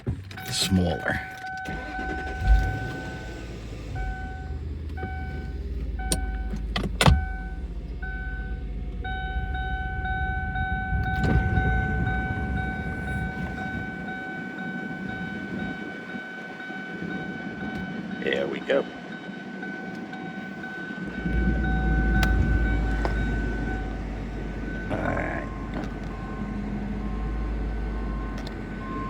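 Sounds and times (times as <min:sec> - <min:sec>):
electronic warning chime: 0:00.3 - 0:29.0
low motor hum: 0:01.8 - 0:18.2, 0:19.2 - 0:29.0.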